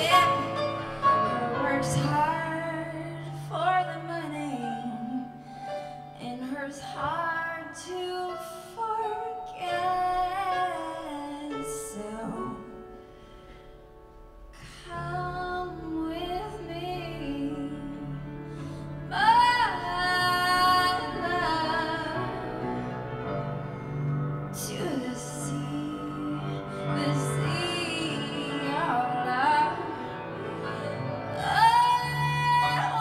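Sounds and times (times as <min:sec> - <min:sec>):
woman singing into microphone: 0:00.0 - 0:05.4, 0:06.2 - 0:12.8, 0:14.6 - 0:18.4, 0:19.1 - 0:22.9, 0:24.6 - 0:33.0
piano: 0:00.0 - 0:33.0.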